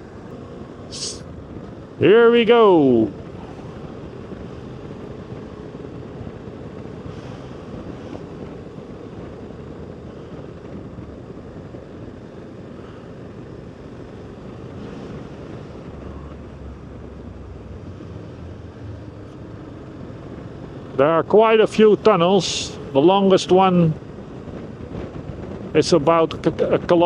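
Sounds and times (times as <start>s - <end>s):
motorcycle engine hum: 0.0s - 27.0s
wind rush on microphone: 0.0s - 27.0s.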